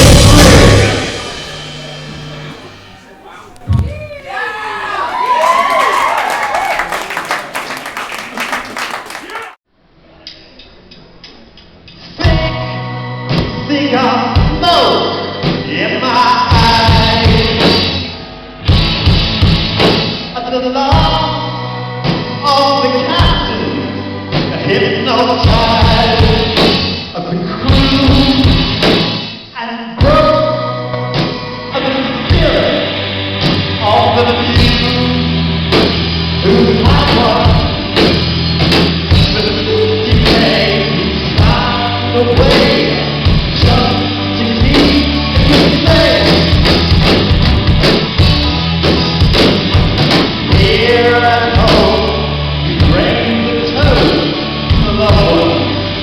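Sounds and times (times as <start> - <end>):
band with bass and drums: 0.0 - 4.6, 12.0 - 18.1, 18.7 - 20.3, 20.9 - 24.8, 25.4 - 29.3, 30.0 - 56.0.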